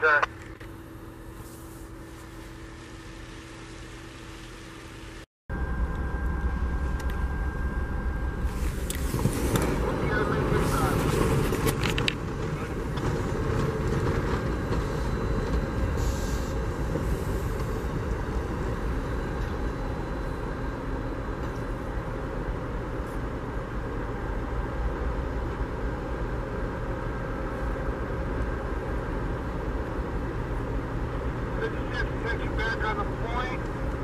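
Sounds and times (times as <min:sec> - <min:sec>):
train wheels rumbling on rails: 0:06.2 - 0:34.0.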